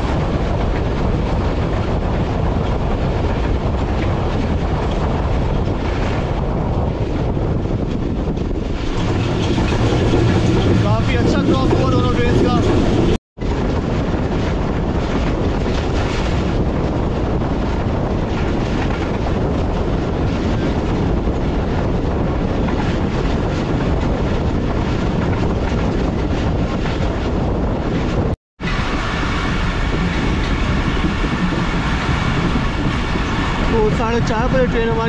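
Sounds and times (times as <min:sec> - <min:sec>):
train coach rumbling and rattling: 0:00.0 - 0:35.0.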